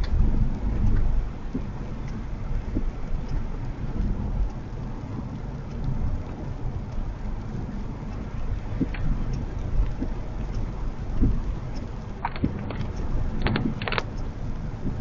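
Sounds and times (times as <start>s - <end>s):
rain and wet road noise: 0.0s - 15.0s.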